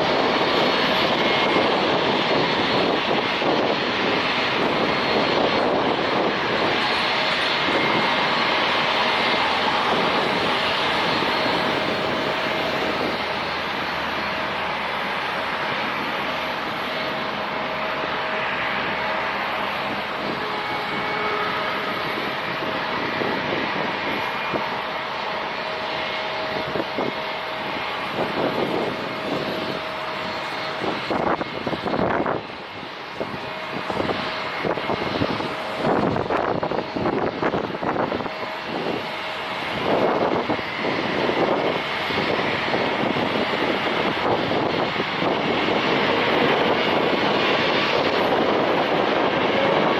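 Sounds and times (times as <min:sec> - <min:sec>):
jet engines roaring: 0:00.0 - 0:49.9
wind buffeting microphone: 0:00.0 - 0:49.9.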